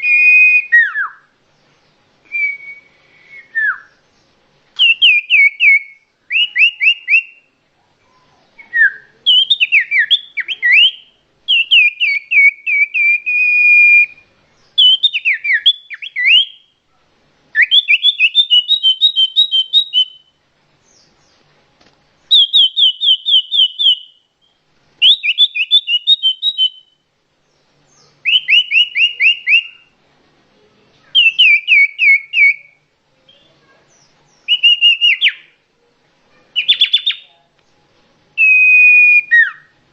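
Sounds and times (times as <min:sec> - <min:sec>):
songbird singing whistled phrases: 0:00.0 - 0:01.4, 0:02.2 - 0:16.8, 0:17.5 - 0:21.4, 0:22.2 - 0:27.0, 0:27.6 - 0:30.0, 0:31.0 - 0:35.6, 0:36.5 - 0:37.4, 0:38.4 - 0:39.8.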